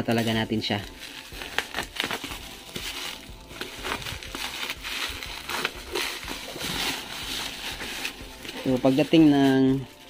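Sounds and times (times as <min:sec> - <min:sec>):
bubble wrap crinkling: 0:00.0 - 0:10.0
cardboard rustling: 0:00.0 - 0:10.0.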